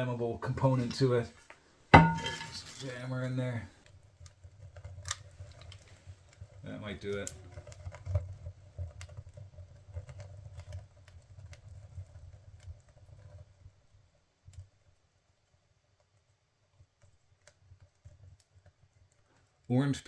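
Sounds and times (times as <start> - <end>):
orange peel crackling in fire: 0.0 - 20.0
low rumble of flame: 2.0 - 19.7.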